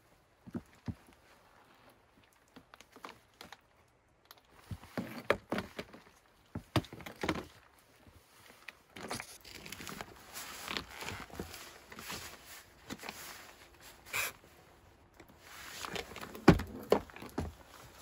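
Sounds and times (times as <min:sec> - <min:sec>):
rustle of straps and clothing: 0:00.0 - 0:18.0.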